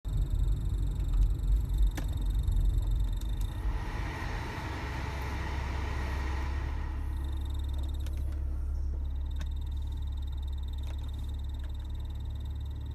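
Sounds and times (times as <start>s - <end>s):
air conditioning odd noise: 0.1s - 12.9s
faint high whine: 0.1s - 12.9s
steady low rumble: 0.1s - 12.9s.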